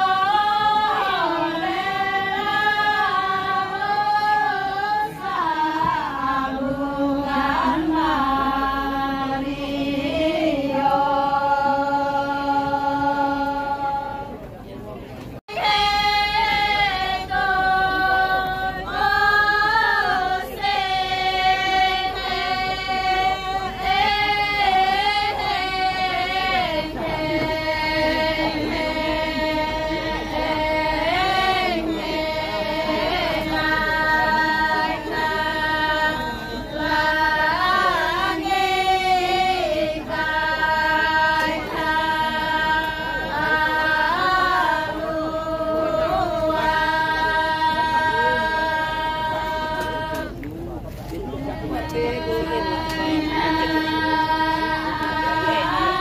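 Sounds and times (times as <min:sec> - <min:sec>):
women singing in unison: 0:00.0 - 0:14.6, 0:15.5 - 0:50.4, 0:51.3 - 0:56.0.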